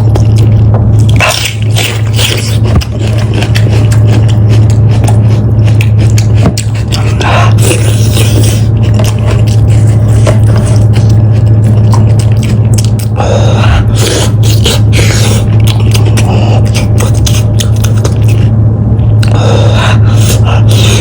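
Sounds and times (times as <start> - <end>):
chewing and gnawing meat: 0.0 - 21.0
loud low hum: 0.0 - 21.0.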